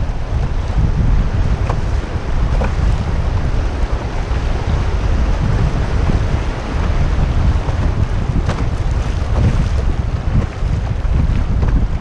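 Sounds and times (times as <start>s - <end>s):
rushing river water: 0.0s - 12.0s
wind buffeting microphone: 0.0s - 12.0s.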